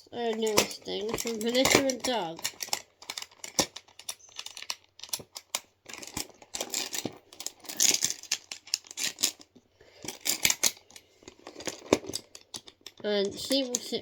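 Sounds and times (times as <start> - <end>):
handling rustles: 0.2 - 14.0
toy latches clicking and knocking: 0.2 - 14.0.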